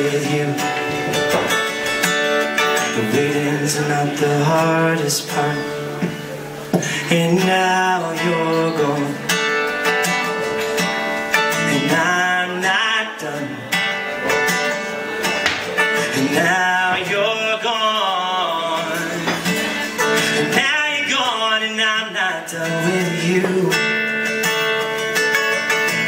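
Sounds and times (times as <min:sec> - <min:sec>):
man singing: 0:00.0 - 0:15.1, 0:15.7 - 0:24.6
acoustic guitar strumming: 0:00.0 - 0:26.0.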